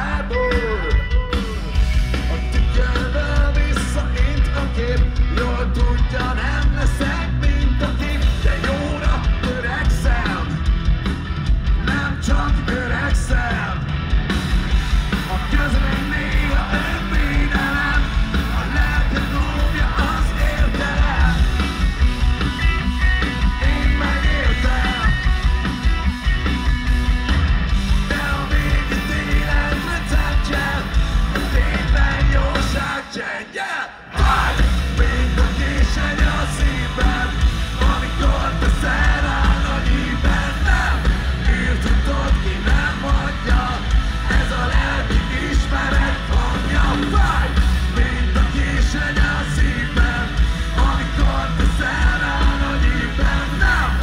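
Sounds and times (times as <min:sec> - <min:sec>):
live heavy rock band: 0:00.0 - 0:54.0.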